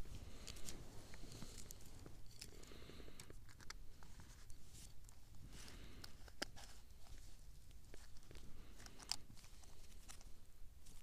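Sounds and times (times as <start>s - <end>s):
hands packing damp bait crunching: 0.0s - 11.0s.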